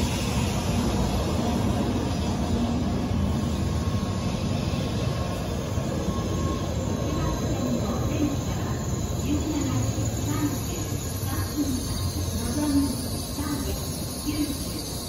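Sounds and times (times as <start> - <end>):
train running slowly on rails: 0.0 - 15.0.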